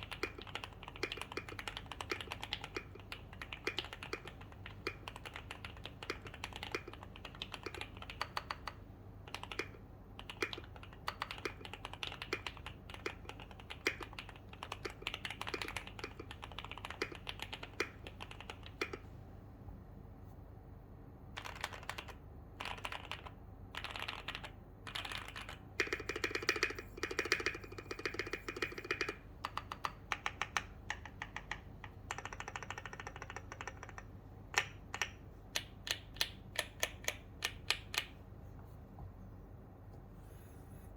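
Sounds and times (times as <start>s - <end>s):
typing on mechanical keyboard: 0.0s - 19.0s, 21.4s - 38.1s.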